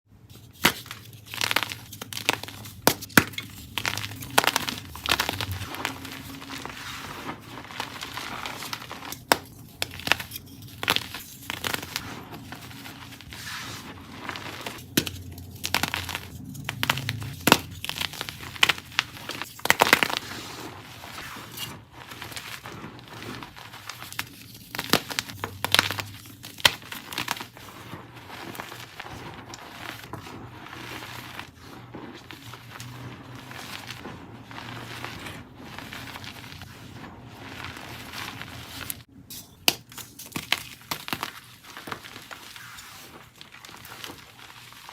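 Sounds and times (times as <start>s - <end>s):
chalk crunching and snapping: 0.3s - 44.9s
powdery crumbling rustle: 0.3s - 44.9s.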